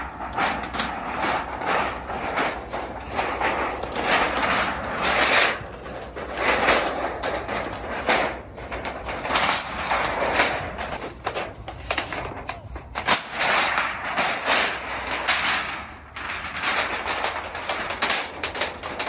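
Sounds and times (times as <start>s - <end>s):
sharp metal crackles: 0.0s - 19.0s
thin metal sheet crinkling: 0.0s - 19.0s.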